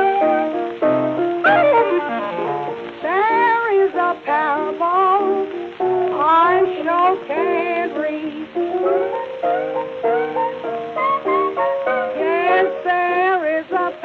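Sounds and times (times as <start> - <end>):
sliding lead melody: 0.0 - 13.0
piano chords: 0.0 - 14.0.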